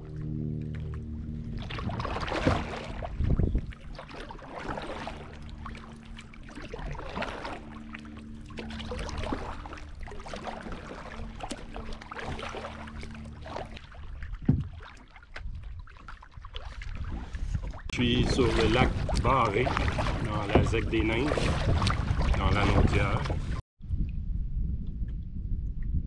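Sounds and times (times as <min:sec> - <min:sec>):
paddle strokes splashing water: 0:00.0 - 0:23.6.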